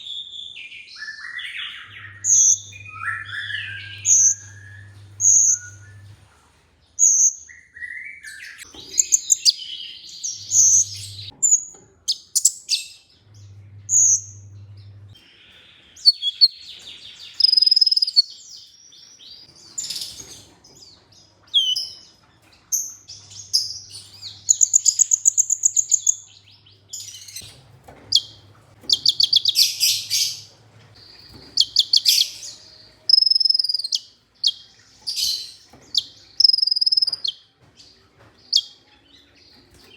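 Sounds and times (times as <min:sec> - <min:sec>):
bird singing chirps and trills: 0:00.0 - 0:06.2, 0:07.0 - 0:20.4, 0:21.4 - 0:27.5, 0:28.1 - 0:37.6.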